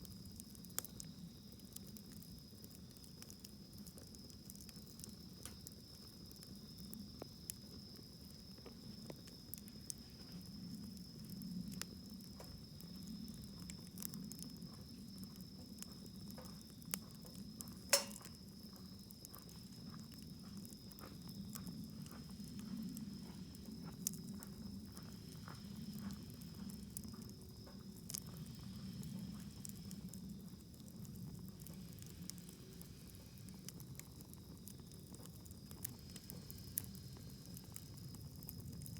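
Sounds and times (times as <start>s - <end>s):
campfire crackling and popping: 0.0s - 38.9s
low rushing of flames: 0.0s - 38.9s.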